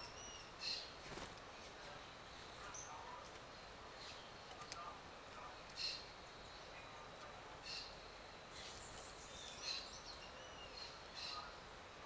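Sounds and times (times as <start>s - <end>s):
faint steady hiss: 0.0s - 12.0s
songbirds chirping: 0.0s - 12.0s.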